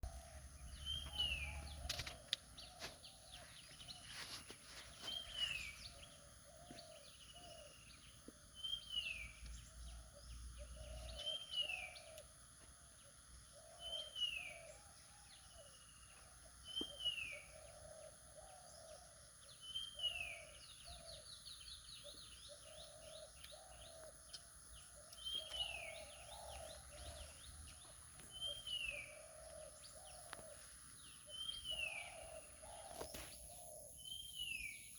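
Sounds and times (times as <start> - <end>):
bird cooing: 5.1 - 8.0, 8.6 - 12.4, 13.0 - 34.8.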